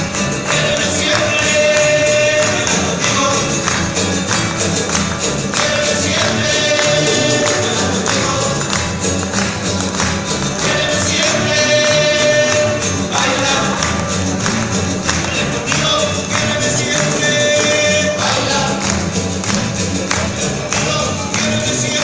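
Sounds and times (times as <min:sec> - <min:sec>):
acoustic guitars strumming: 0:00.0 - 0:22.0
light percussion: 0:00.0 - 0:22.0.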